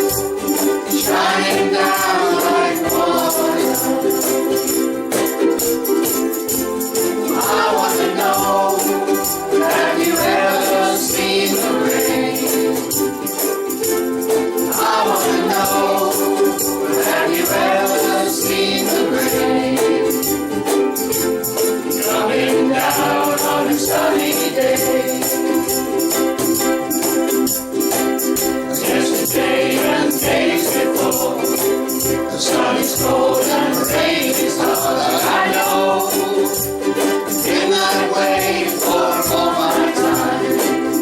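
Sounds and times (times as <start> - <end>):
group of voices singing: 0.0 - 5.7, 6.5 - 20.5, 21.8 - 26.2, 28.4 - 41.0
ukuleles strumming chords: 0.0 - 41.0.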